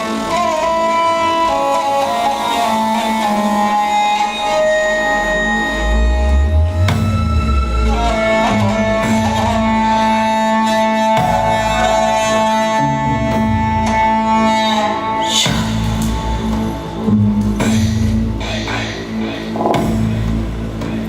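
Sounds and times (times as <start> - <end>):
held melody notes: 0.0 - 20.7
low drone and bass: 2.8 - 21.0.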